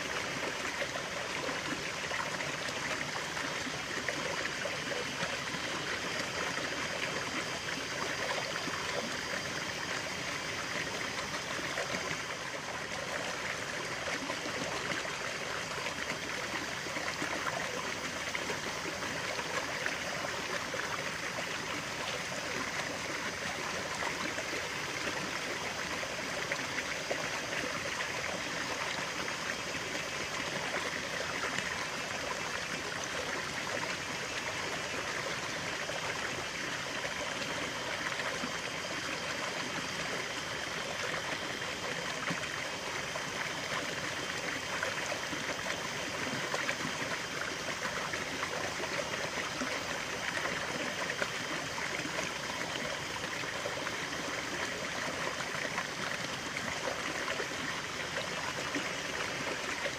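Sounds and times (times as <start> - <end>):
stream of running water: 0.0 - 59.9.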